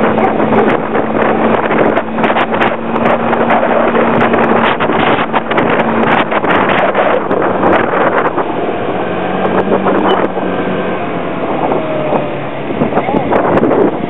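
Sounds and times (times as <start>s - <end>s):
scooter engine humming: 0.0s - 14.0s
wind on microphone: 0.0s - 14.0s.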